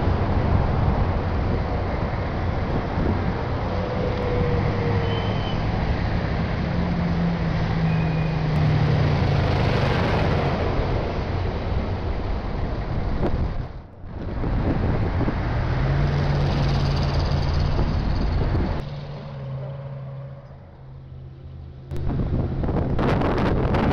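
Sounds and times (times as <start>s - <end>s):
road and tyre noise: 0.0s - 23.9s
trucks engine rumble: 0.0s - 23.9s.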